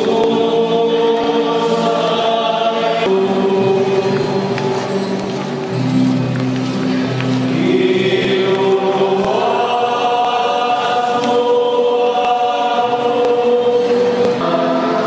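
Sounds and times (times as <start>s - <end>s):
choir and congregation singing hymn: 0.0s - 5.0s, 7.5s - 15.0s.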